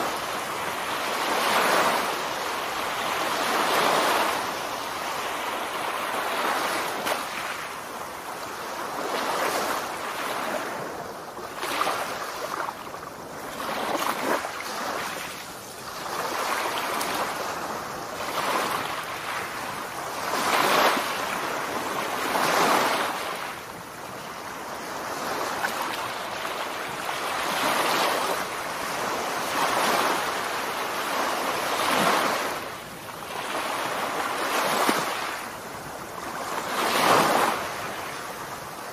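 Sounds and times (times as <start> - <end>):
surf washing on a beach: 0.0 - 38.9.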